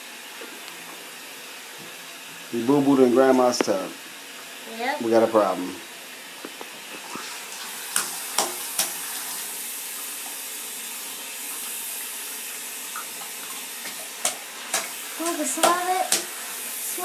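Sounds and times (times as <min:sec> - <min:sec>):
faucet water splashing into bath: 0:01.5 - 0:17.0.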